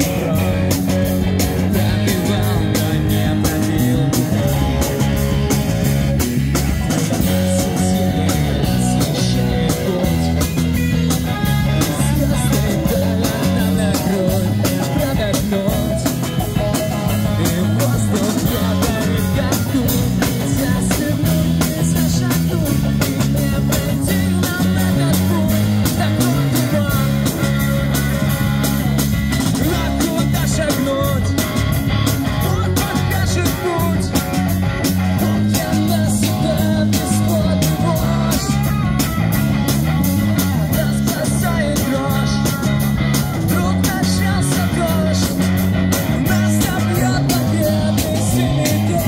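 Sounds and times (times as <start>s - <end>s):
person singing: 0.0s - 5.8s, 6.9s - 31.4s, 32.3s - 34.4s, 35.2s - 39.1s, 40.1s - 49.0s
drum kit: 0.0s - 49.0s
electric guitars: 0.0s - 49.0s.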